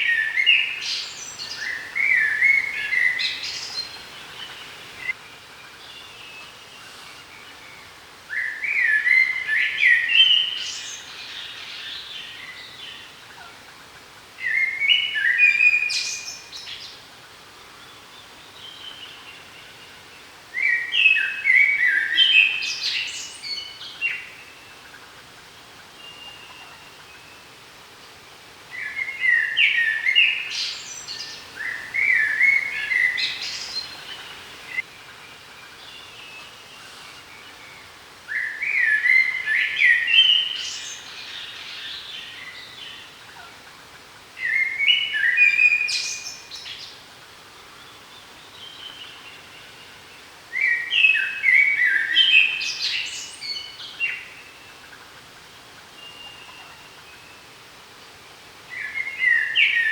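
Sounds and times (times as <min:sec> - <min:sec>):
songbird singing: 0:00.0 - 0:13.6, 0:14.4 - 0:59.9
faint outdoor background: 0:00.0 - 0:59.9.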